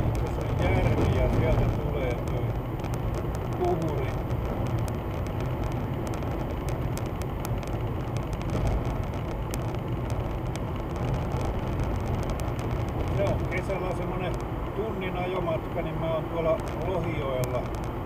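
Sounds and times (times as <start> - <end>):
car driving rumble inside cabin: 0.0 - 18.0
faint clicks and crackles: 0.0 - 18.0.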